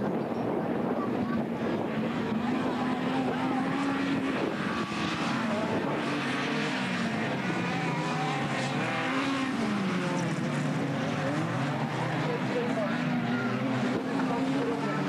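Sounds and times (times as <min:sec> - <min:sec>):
race car engines revving: 0:00.0 - 0:15.0
steady noisy rush: 0:00.0 - 0:15.0.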